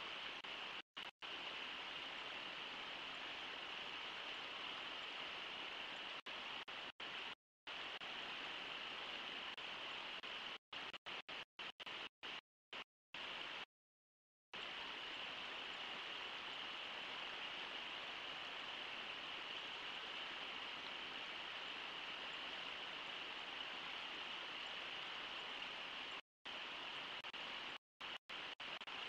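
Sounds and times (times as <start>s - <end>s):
river rushing over riffles: 0.0s - 12.4s, 14.6s - 29.0s.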